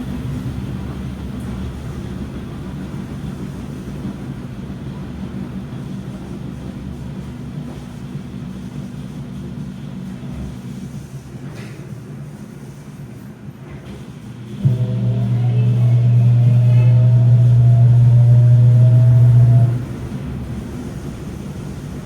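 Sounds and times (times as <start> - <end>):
washing machine running: 0.0 - 22.0.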